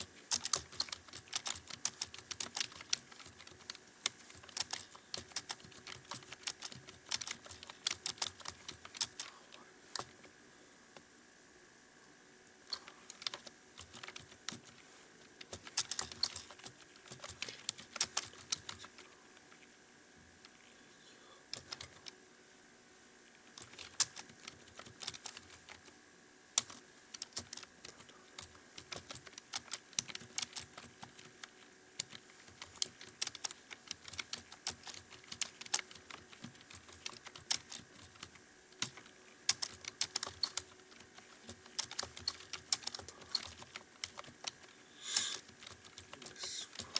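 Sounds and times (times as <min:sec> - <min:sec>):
fast keyboard typing: 0:00.0 - 0:09.3, 0:12.7 - 0:19.1, 0:21.5 - 0:22.2, 0:23.5 - 0:46.9
faint steady hum: 0:00.0 - 0:46.9.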